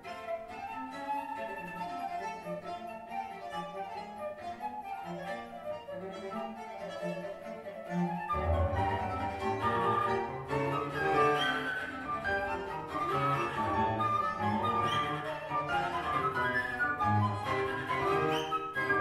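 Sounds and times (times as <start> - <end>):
orchestral music with strings: 0.0 - 19.0.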